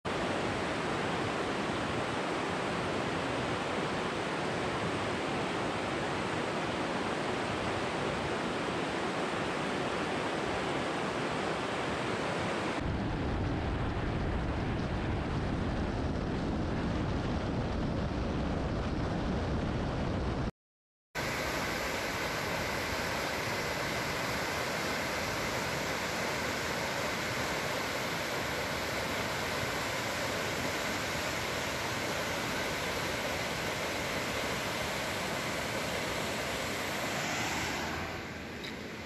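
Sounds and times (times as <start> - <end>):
wind: 0.0 - 20.5, 21.2 - 39.0.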